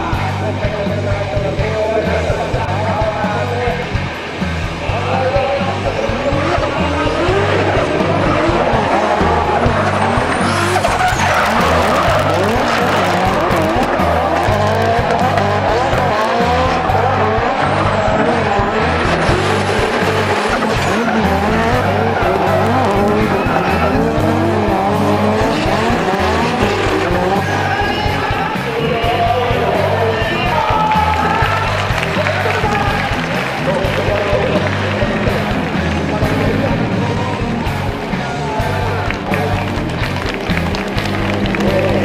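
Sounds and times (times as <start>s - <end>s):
car engines revving: 0.0s - 42.0s
music with heavy bass: 0.0s - 42.0s
tyres squealing: 3.4s - 42.0s.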